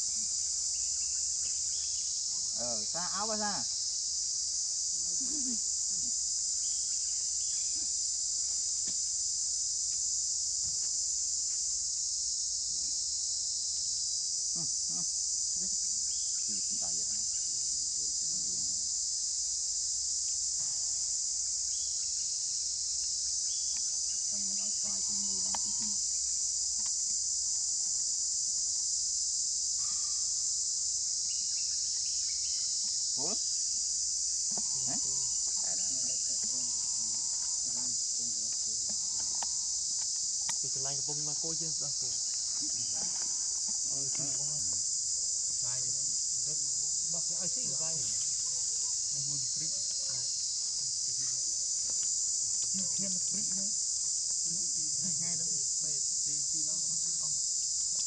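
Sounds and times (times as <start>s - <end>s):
high-pitched insect chorus drone: 0.0s - 58.0s.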